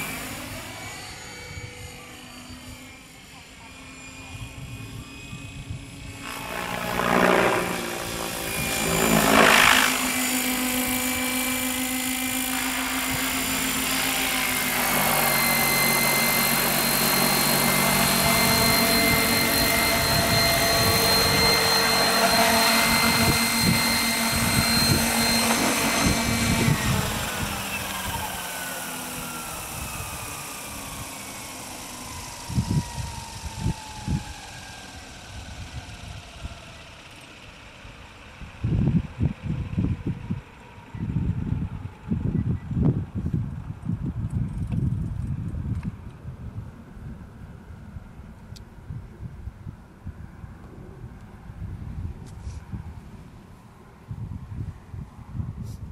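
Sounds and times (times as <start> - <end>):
model helicopter rotor whine: 0.0 - 55.9.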